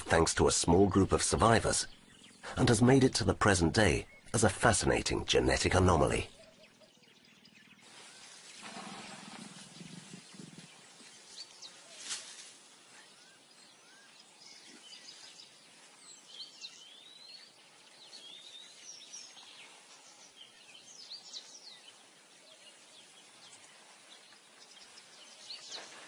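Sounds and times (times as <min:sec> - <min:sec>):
bird chirps: 0:00.9 - 0:26.0.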